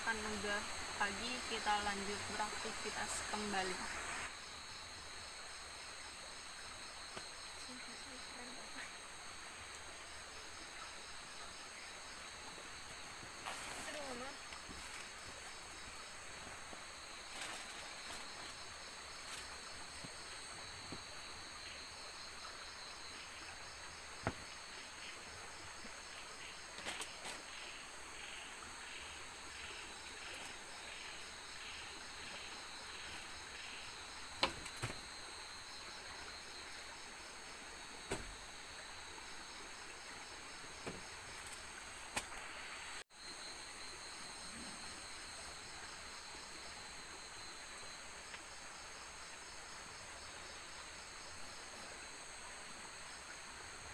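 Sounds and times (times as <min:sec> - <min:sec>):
insects trilling: 0:00.0 - 0:53.9
slow pulsing insect call: 0:00.0 - 0:53.9.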